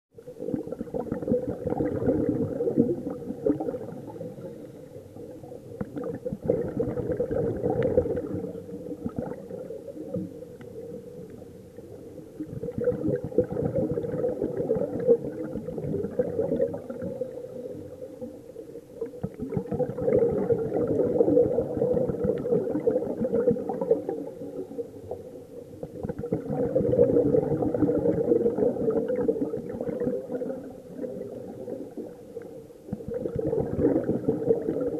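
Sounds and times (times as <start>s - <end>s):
underwater bubbles gurgling: 0.1s - 34.9s.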